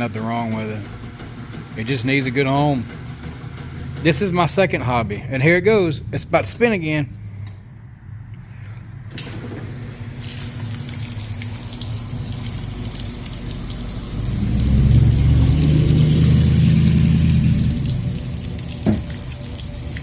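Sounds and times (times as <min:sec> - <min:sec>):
water rushing through pump: 0:00.0 - 0:06.7, 0:09.1 - 0:20.0
washing machine motor humming: 0:00.0 - 0:07.1, 0:09.1 - 0:20.0.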